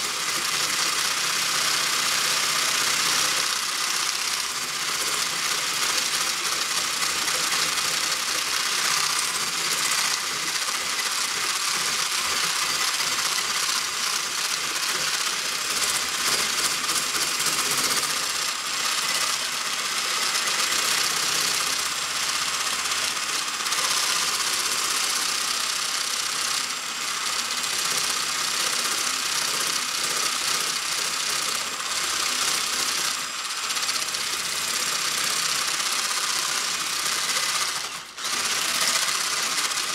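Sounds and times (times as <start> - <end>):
electric mixer running: 0.0 - 39.9.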